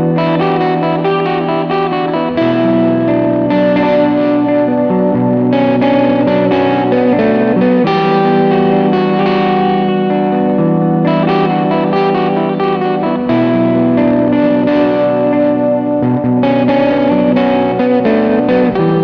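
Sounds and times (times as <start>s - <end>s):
sustained guitar notes: 0.0s - 19.0s.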